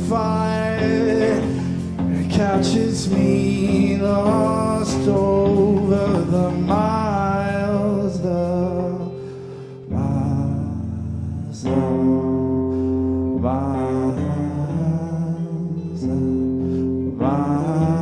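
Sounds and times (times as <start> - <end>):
guitar chords: 0.0 - 18.0.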